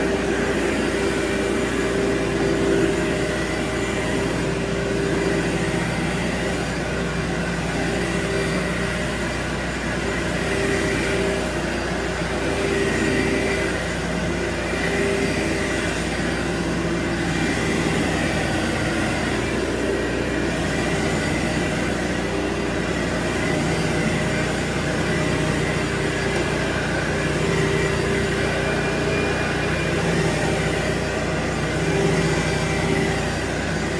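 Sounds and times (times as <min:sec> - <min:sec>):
carpet cleaning machine motor whirring: 0:00.0 - 0:33.9
pressure washer hiss: 0:00.0 - 0:33.9.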